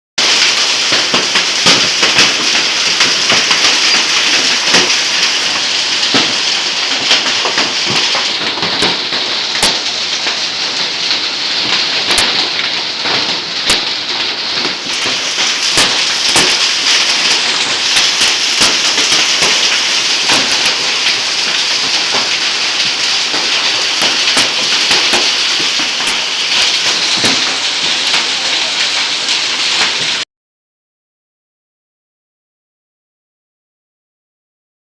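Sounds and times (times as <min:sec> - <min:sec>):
hail and rain pelting down: 0:00.2 - 0:30.2
hailstones striking hard surfaces: 0:00.2 - 0:30.2.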